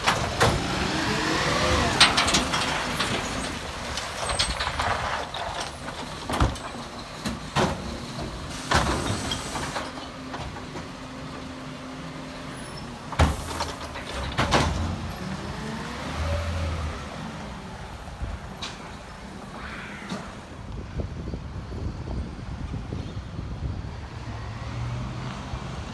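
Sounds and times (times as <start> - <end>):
garbage truck engine humming: 0.0 - 20.8.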